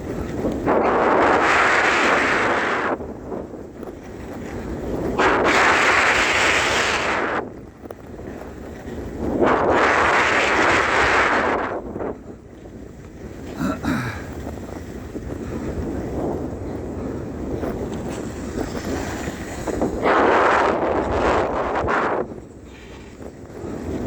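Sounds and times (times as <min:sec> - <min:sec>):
skis on snow: 0:00.0 - 0:13.6, 0:14.3 - 0:24.0
wind on microphone: 0:00.0 - 0:24.0.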